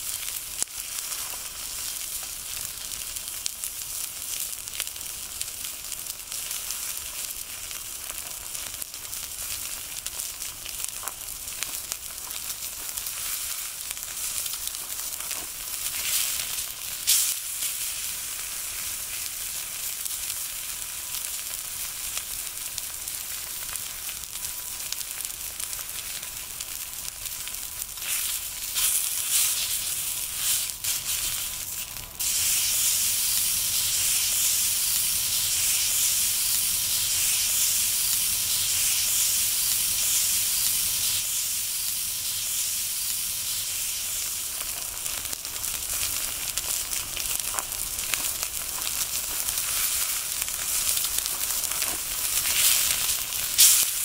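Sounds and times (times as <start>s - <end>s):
steak sizzling on iron plate: 0.0s - 54.0s.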